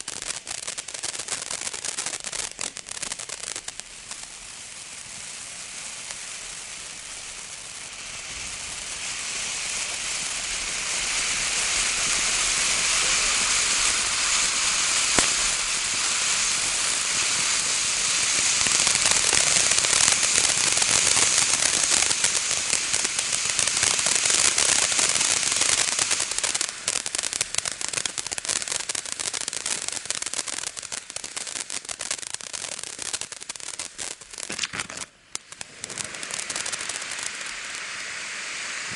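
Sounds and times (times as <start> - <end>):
firework crackling: 0.0 - 38.9
firework fountain hissing: 0.0 - 38.9.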